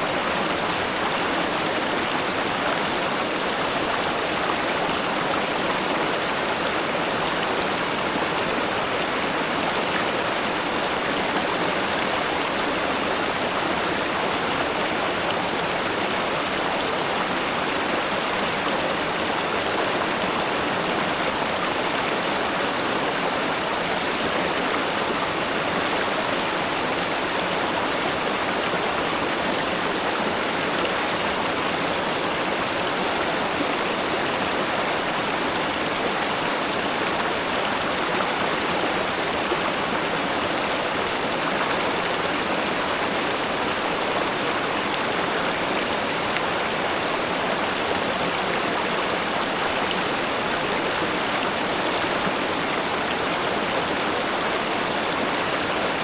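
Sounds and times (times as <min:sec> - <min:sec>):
flowing stream water: 0:00.0 - 0:56.0.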